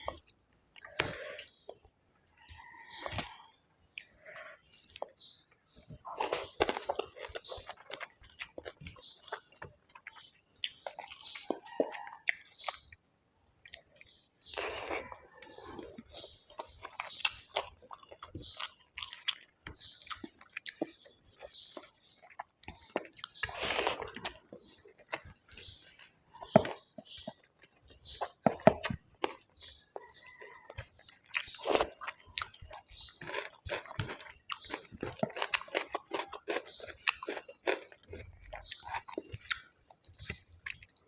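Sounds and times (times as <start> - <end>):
close-up chewing food: 0.0 - 41.0.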